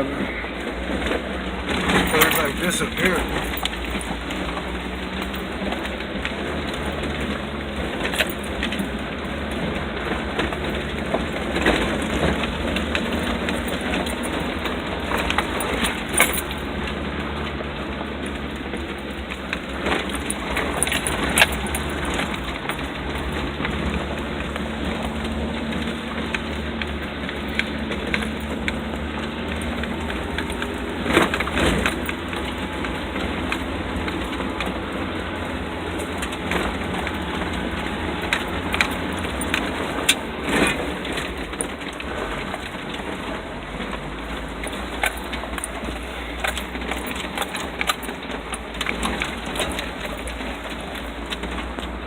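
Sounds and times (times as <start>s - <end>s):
vehicle engine and road rumble: 0.0s - 52.0s
vehicle knocks and rattles: 0.4s - 52.0s.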